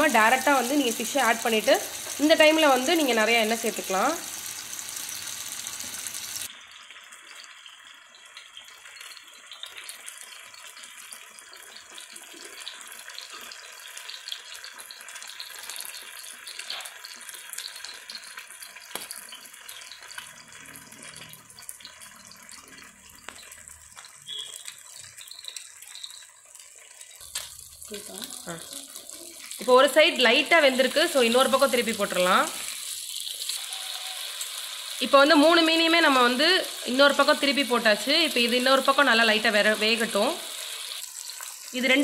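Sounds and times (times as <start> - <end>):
fish sizzling in oil: 0.0 - 42.0.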